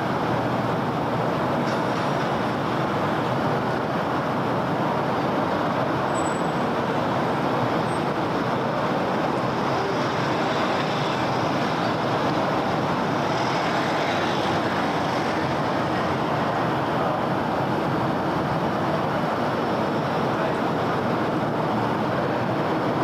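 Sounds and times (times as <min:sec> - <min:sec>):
road traffic hum: 0:00.0 - 0:23.0.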